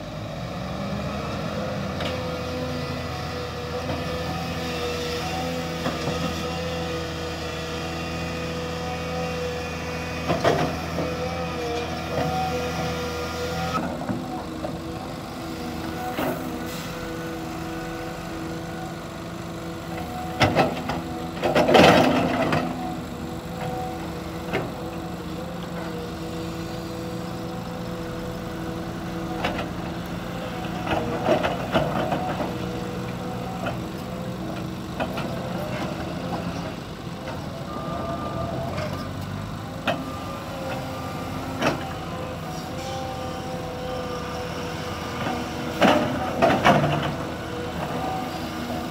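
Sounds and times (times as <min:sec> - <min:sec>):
excavator engine droning: 0:00.0 - 0:48.9.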